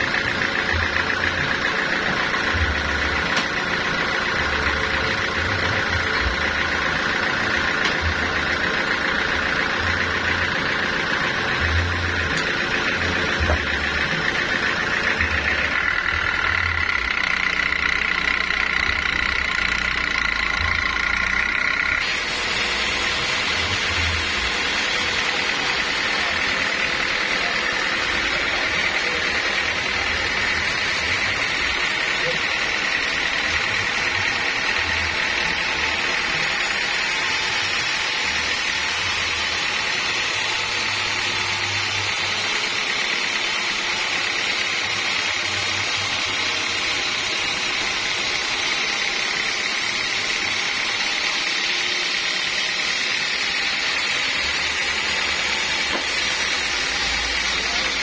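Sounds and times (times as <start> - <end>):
engine running: 0.0 - 58.0
saw high whine: 0.0 - 58.0.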